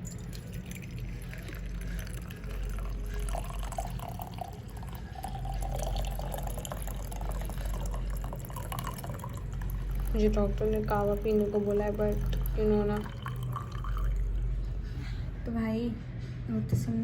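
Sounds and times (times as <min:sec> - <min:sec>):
tea pouring into cup: 0:00.0 - 0:14.7.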